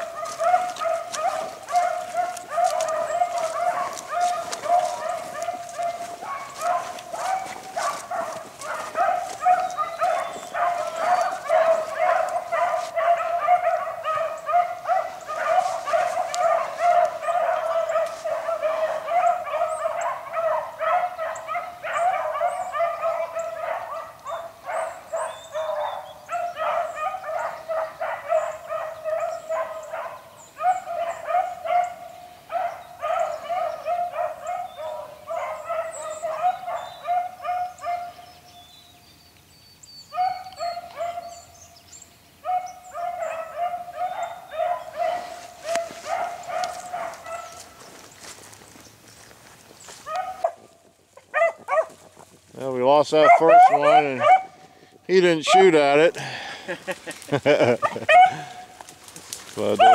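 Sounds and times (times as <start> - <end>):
hounds baying: 0.0 - 38.7, 40.0 - 41.8, 42.4 - 59.9.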